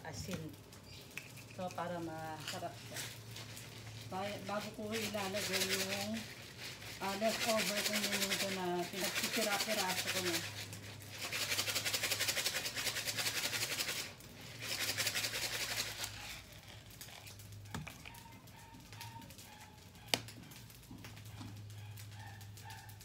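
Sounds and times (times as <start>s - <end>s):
pepper mill grinding: 0.3s - 20.3s.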